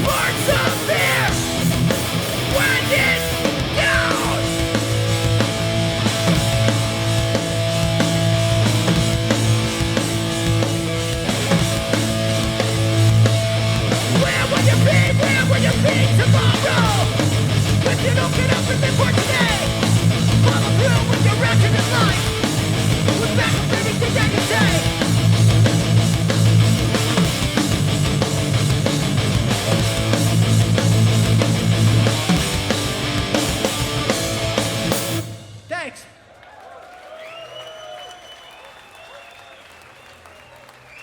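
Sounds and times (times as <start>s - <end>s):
distorted electric guitar: 0.0s - 36.0s
punk band playing live: 0.0s - 36.0s.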